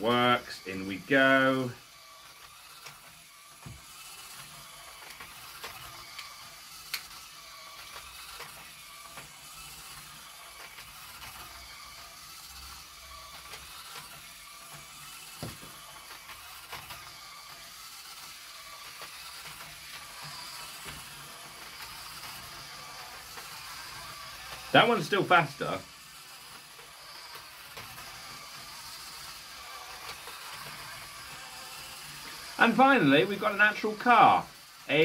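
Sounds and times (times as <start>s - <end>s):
toy truck motors whirring: 0.0s - 35.0s.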